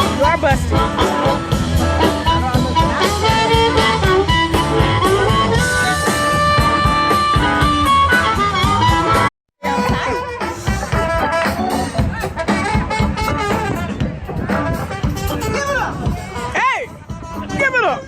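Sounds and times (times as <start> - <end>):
bluesy jazz music with guitar: 0.0 - 17.6.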